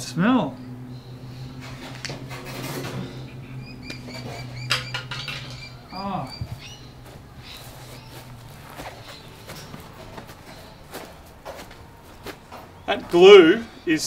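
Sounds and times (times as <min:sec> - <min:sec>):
low hum: 0:00.0 - 0:13.0
small birds chirping: 0:00.5 - 0:14.0.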